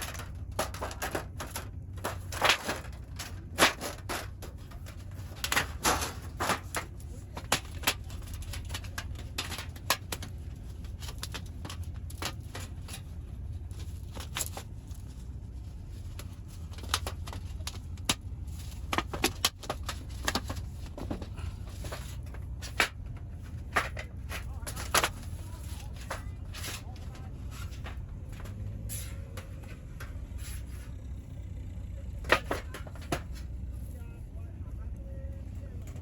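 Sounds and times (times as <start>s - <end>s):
low steady rumble: 0.0s - 36.0s.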